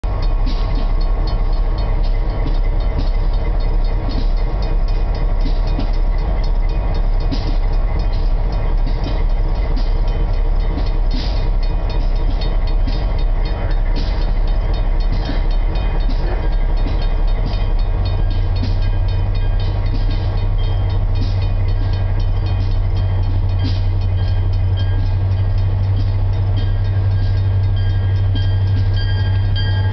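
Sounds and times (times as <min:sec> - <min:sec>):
deep hum: 0:00.0 - 0:29.9
diesel locomotives rumbling: 0:00.0 - 0:29.9.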